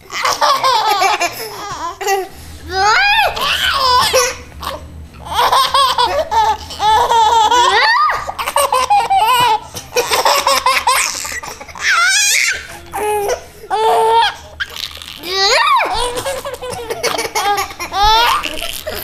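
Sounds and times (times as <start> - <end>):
baby giggling: 0.0 - 19.0.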